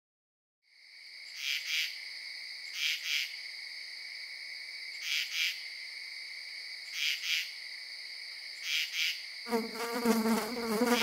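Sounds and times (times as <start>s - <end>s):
crickets chirping: 0.7s - 11.0s.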